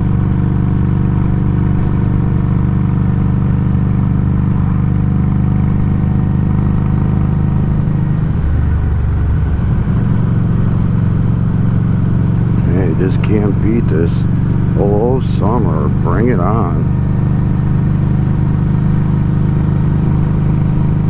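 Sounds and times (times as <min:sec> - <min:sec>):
motorcycle exhaust running: 0:00.0 - 0:21.0.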